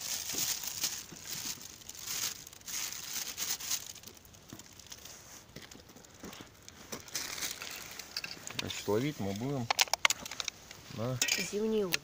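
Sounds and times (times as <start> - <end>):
crinkly rustling and crunching: 0.0 - 12.0.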